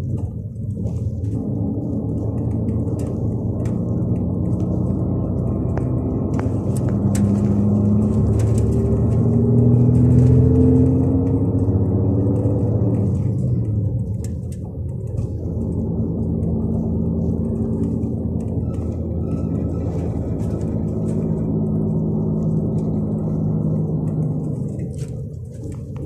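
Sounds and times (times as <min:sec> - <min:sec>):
diesel coach engine drone: 0:00.0 - 0:26.0.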